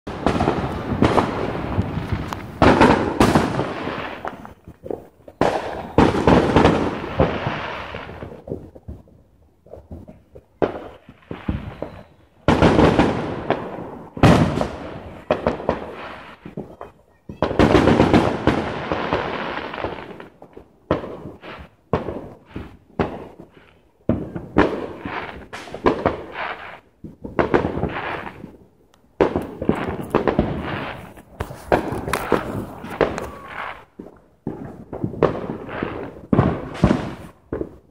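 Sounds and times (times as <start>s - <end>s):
fireworks bangs: 0.1s - 37.9s.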